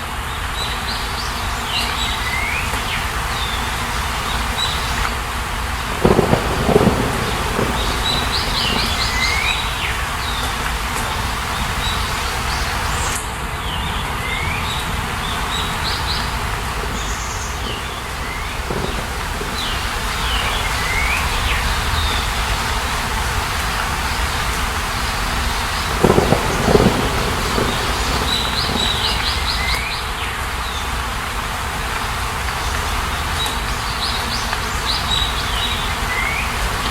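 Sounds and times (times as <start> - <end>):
steady rushing natural noise: 0.0 - 36.9.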